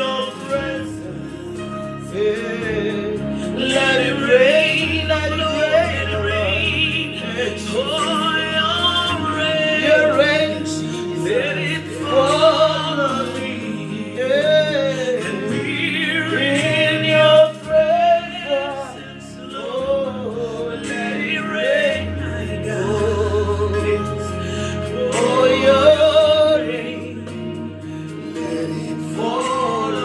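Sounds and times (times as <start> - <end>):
sustained backing chords: 0.0 - 30.0.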